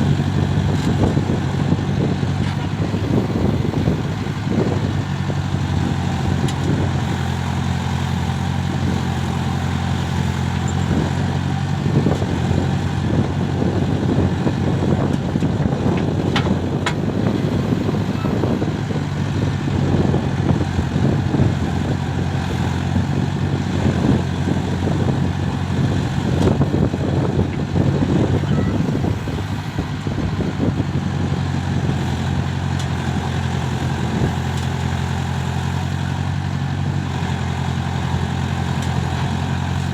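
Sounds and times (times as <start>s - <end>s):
diesel engine working: 0.0s - 39.9s.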